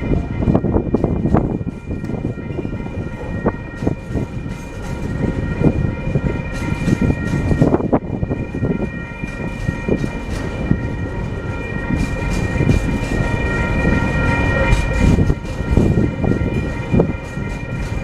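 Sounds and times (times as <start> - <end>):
freight train rumbling past: 0.0 - 18.0
steady high whine: 0.0 - 18.0
wheels and wagons clanking: 0.0 - 18.0.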